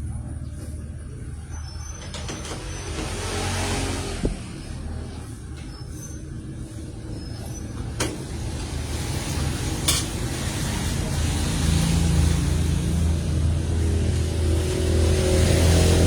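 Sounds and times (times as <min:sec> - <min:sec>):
low motor rumble: 0:00.0 - 0:16.0.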